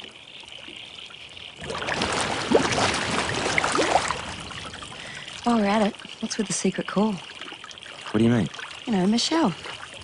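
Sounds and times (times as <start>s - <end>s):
water sloshing and gurgling: 0.0s - 10.0s.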